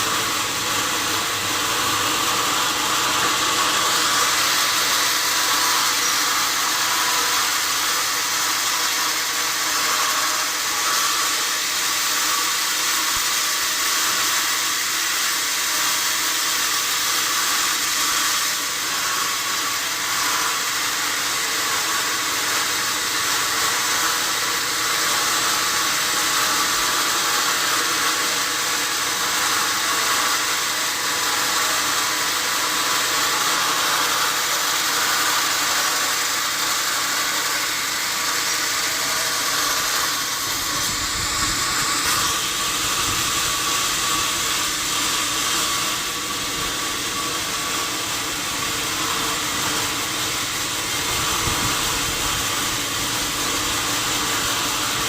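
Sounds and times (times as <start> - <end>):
saw running with dense hiss: 0.0 - 55.0.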